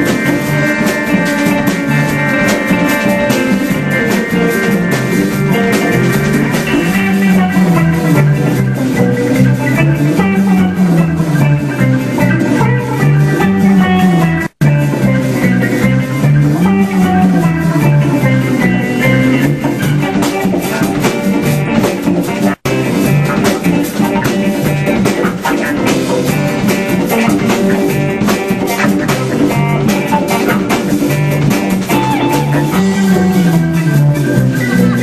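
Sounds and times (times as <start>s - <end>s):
bass: 0.0s - 35.0s
drums: 0.0s - 35.0s
electric guitar: 0.0s - 35.0s.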